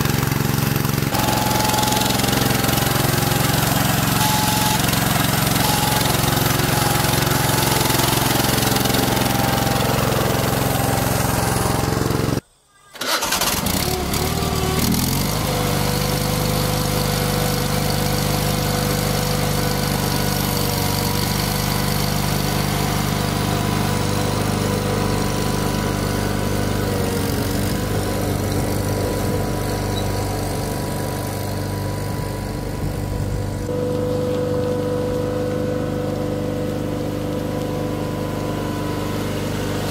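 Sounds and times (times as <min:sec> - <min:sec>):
small tractor engine running: 0:00.0 - 0:12.4, 0:13.0 - 0:39.9.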